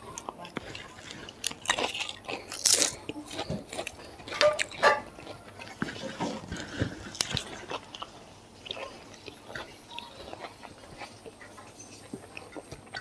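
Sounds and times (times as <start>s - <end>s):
wet chewing and mouth sounds: 0.0s - 13.0s.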